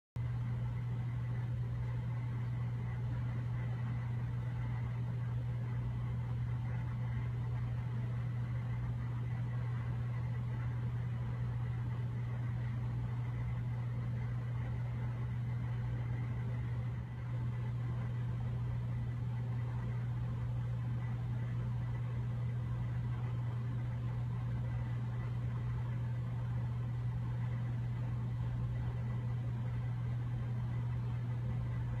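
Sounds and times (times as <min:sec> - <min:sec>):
steady low hum: 0:00.2 - 0:32.0.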